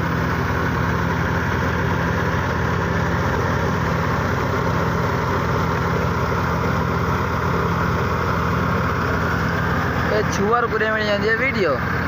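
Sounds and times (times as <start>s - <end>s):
tractor engine droning: 0.0s - 12.0s.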